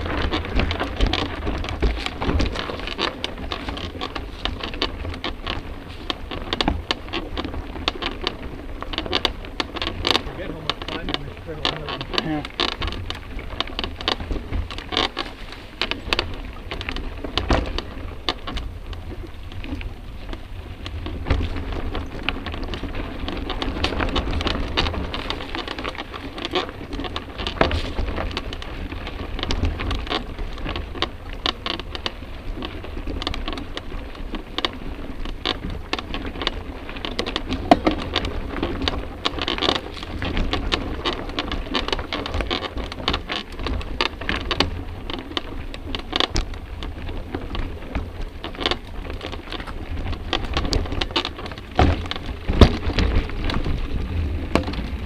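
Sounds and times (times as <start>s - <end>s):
bike rattling and knocking: 0.0s - 55.0s
low rolling rumble: 0.0s - 55.0s.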